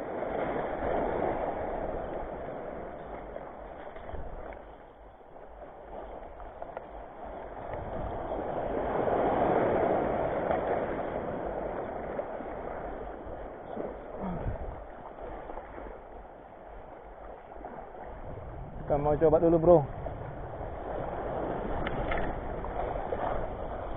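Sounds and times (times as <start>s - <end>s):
small waves splashing over rocks: 0.0s - 23.9s.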